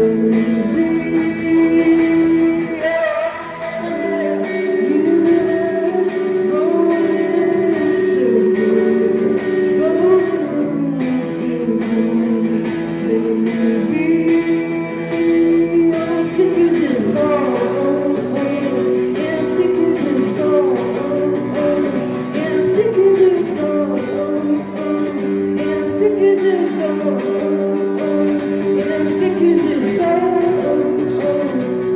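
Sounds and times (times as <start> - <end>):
guitar accompaniment: 0.0 - 31.9
person singing: 0.0 - 31.9.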